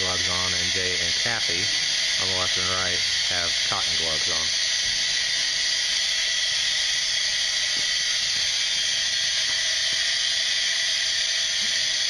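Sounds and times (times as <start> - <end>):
gas hissing through a hose: 0.0 - 12.0.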